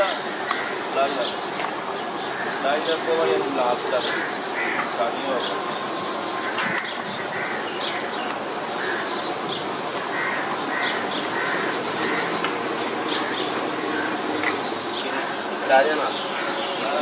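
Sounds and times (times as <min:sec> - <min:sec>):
birds calling: 0:00.0 - 0:17.0
steady background din: 0:00.0 - 0:17.0.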